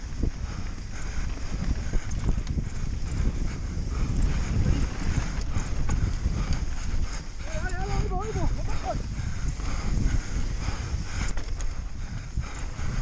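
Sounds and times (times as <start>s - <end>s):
bike rattling: 0.0s - 13.0s
wind rumbling on microphone: 0.0s - 13.0s
bike tyres clattering over stones: 0.1s - 13.0s.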